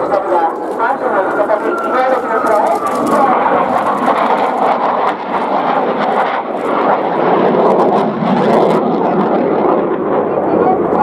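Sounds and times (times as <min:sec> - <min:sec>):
loud jet engine noise: 0:00.0 - 0:11.0.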